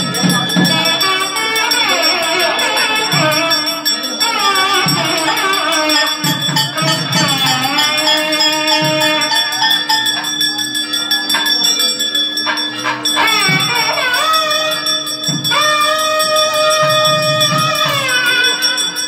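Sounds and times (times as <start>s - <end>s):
jingling bells: 0.0s - 19.0s
wavering melody: 0.0s - 19.0s.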